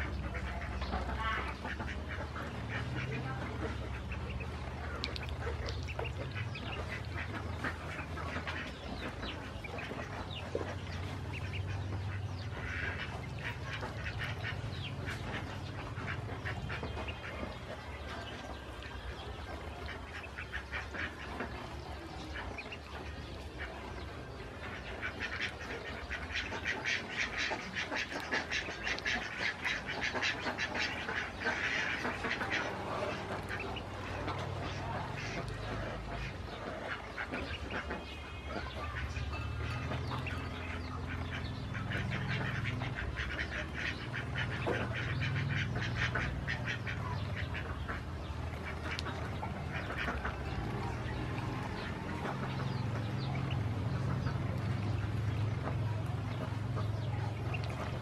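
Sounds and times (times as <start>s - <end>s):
duckling bills clicking and dabbling: 0.0s - 58.0s
ducklings peeping: 0.0s - 58.0s.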